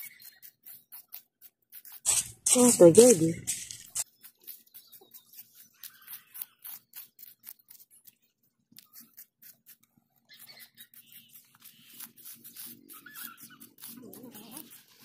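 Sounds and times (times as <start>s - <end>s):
metal spoon scraping sand: 0.0s - 8.1s, 8.8s - 15.0s.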